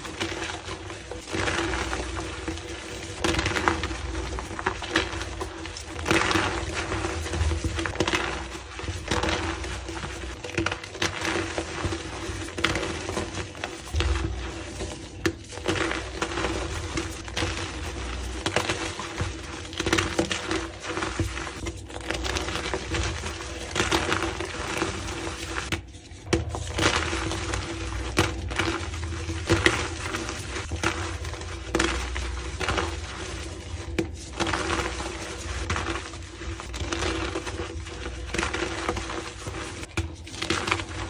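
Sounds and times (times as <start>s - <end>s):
chalk crunching and crackling: 0.0s - 41.0s.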